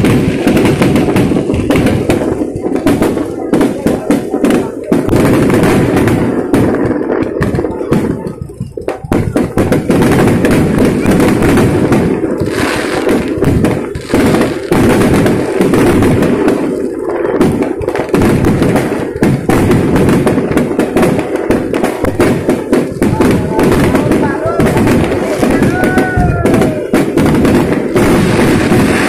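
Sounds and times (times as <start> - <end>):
firework shells bursting: 0.0 - 29.0.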